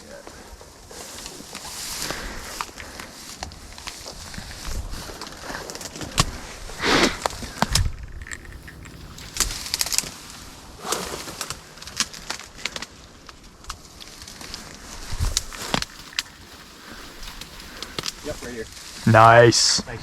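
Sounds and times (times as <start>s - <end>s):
rustling: 0.0s - 19.5s.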